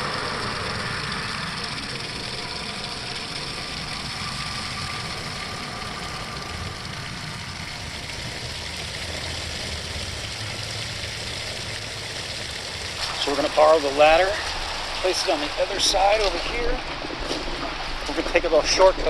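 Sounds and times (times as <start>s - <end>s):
constant hiss: 0.0s - 19.0s
freeway traffic rumble: 0.0s - 19.0s.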